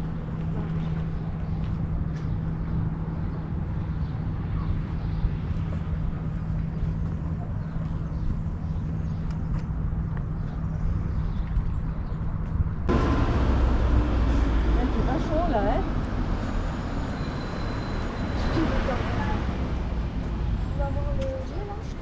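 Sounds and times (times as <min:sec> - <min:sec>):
vehicle running steadily: 0:00.0 - 0:22.0.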